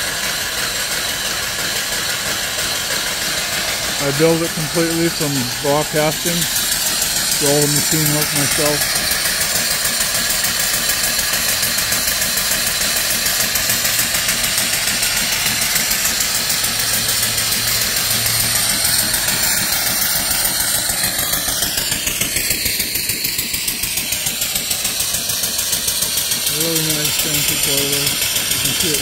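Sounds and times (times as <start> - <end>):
steam engine exhaust beats: 0.0 - 29.0
steam hissing: 0.0 - 29.0.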